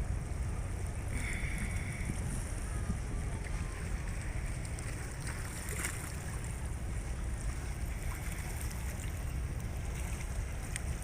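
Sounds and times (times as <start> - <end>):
faint hiss of water: 0.0 - 11.0
wind buffeting microphone: 0.0 - 11.0.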